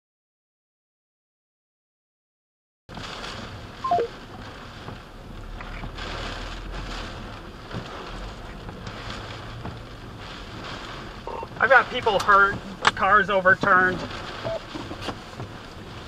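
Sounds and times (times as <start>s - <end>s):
heavy rain and wind on car: 2.9s - 16.0s
windshield wipers sweeping: 2.9s - 16.0s.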